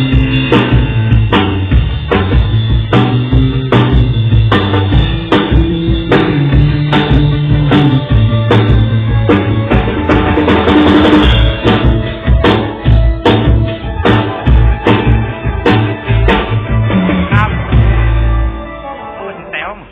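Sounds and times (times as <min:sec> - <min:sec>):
drum kit beat: 0:00.0 - 0:18.6
rock music: 0:00.0 - 0:19.9.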